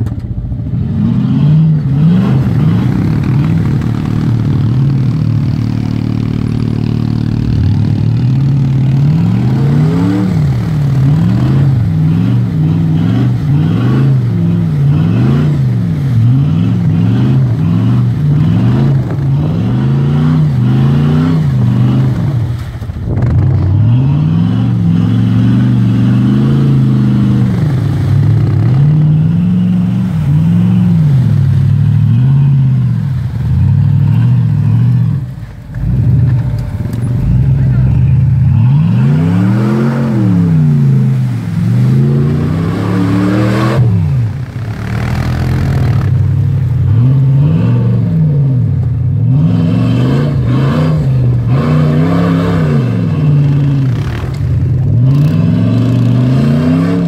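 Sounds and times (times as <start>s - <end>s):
engine revving hard: 0.8s - 22.5s, 23.1s - 36.2s, 37.2s - 57.0s.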